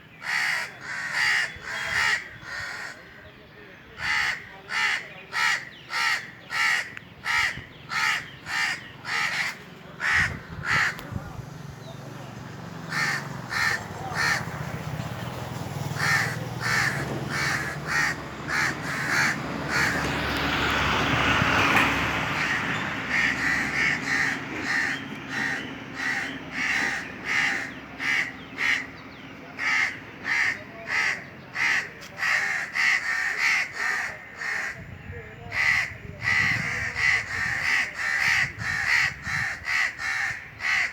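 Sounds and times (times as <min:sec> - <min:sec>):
crows cawing: 0:00.1 - 0:03.4, 0:04.0 - 0:11.1, 0:12.9 - 0:14.5, 0:15.8 - 0:20.2, 0:22.3 - 0:34.9, 0:35.5 - 0:40.9.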